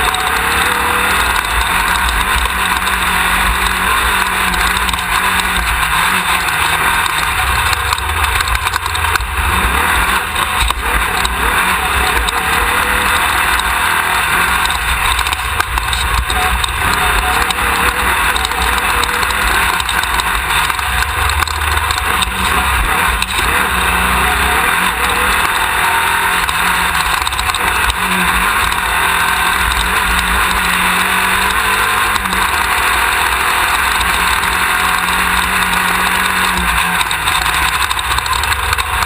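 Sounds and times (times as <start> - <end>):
buggy engine running: 0.0 - 39.0.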